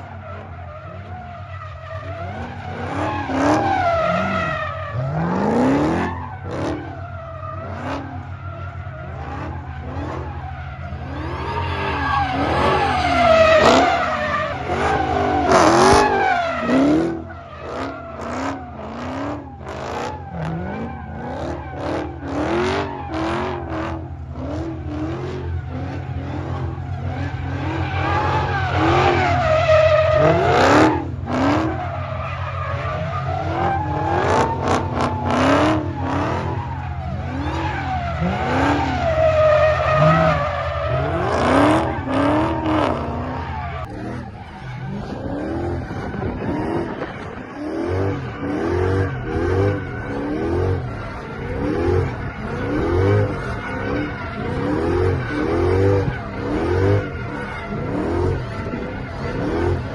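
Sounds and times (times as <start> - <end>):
car engine revving: 0.0 - 59.9
tires squealing: 0.0 - 59.9.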